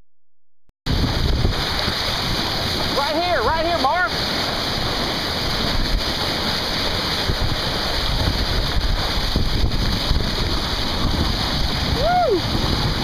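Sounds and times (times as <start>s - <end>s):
water rushing along hull: 0.9s - 13.0s
wind buffeting microphone: 0.9s - 13.0s.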